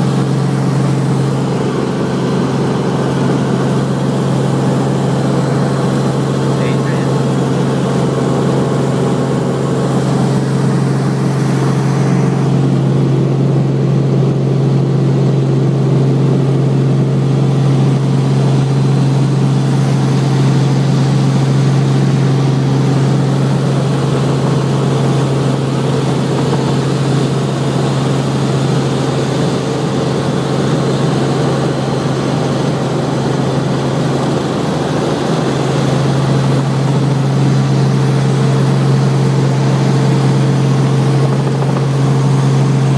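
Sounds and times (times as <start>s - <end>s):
helicopter engine and rotor drone: 0.0s - 42.9s.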